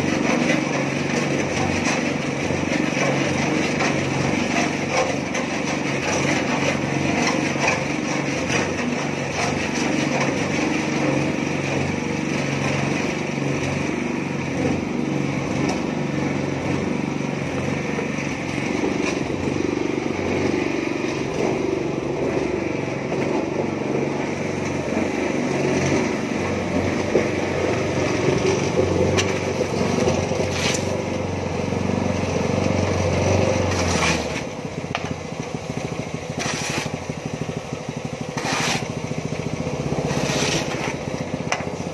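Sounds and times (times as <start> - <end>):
concrete mixer engine running: 0.0 - 41.9.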